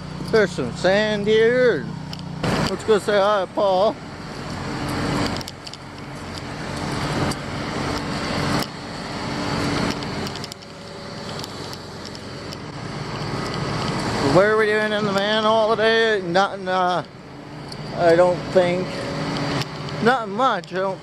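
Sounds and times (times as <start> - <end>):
road traffic: 0.0 - 21.0
vehicle engine hum: 0.0 - 21.0.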